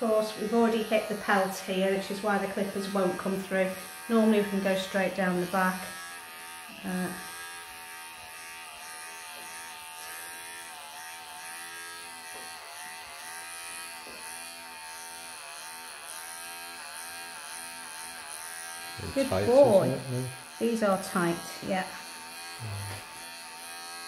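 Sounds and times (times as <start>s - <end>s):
electric clippers buzzing: 0.0s - 24.0s.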